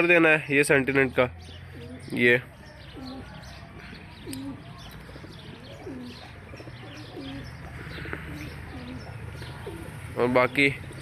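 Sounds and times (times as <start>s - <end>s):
pigeons cooing: 1.0s - 11.0s.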